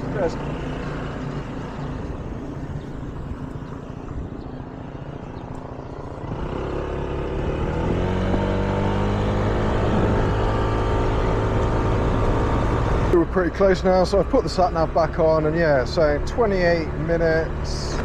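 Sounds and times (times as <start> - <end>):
scooter engine accelerating: 0.0 - 18.0.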